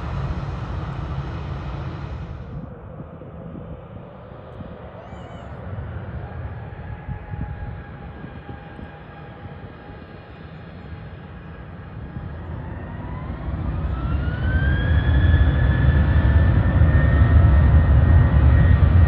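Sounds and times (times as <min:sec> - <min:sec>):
jet engines whining and rumbling: 0:00.0 - 0:19.0.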